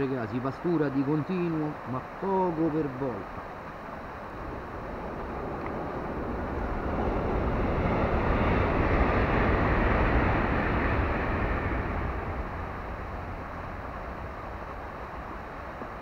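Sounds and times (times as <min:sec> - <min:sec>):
passing vehicle rumble: 0:00.0 - 0:16.0.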